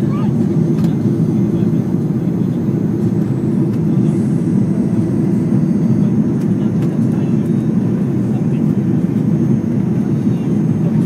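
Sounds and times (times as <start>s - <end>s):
airliner engines roaring: 0.0s - 11.0s.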